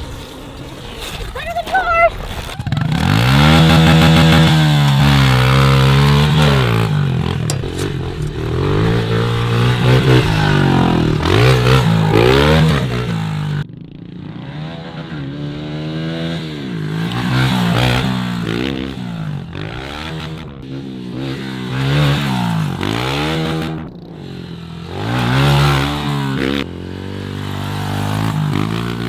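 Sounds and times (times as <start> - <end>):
off-road engine revving: 0.0 - 29.0.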